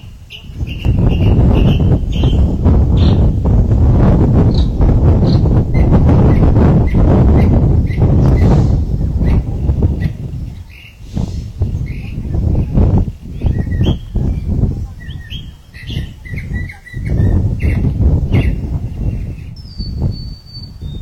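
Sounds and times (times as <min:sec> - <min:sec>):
small birds chirping and whistling: 0:00.0 - 0:03.4, 0:04.5 - 0:21.0
loud uneven low rumble: 0:00.2 - 0:21.0.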